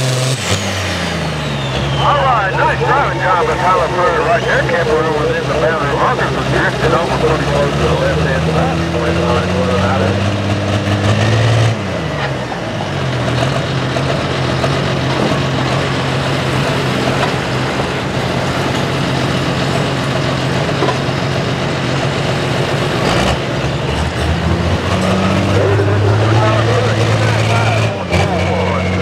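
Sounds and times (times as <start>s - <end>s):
tractor diesel engine: 0.0s - 29.0s.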